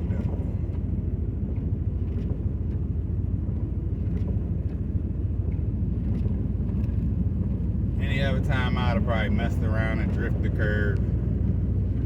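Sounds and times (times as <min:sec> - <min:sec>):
engine and road rumble in vehicle: 0:00.0 - 0:12.0.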